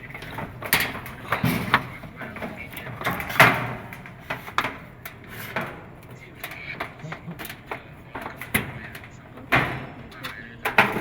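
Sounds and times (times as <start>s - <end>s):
faint voices: 0.0s - 11.0s
small parts and tools clattering: 0.0s - 11.0s.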